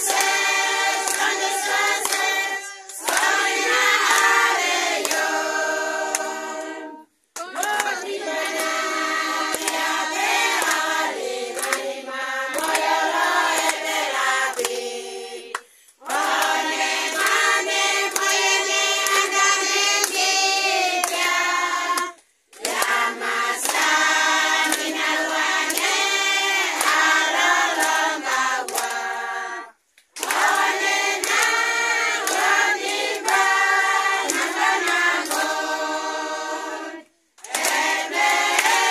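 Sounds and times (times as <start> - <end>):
hand clapping: 0.0 - 6.8, 7.4 - 29.1, 29.9 - 36.6, 37.4 - 38.9
women and children singing: 0.0 - 38.9.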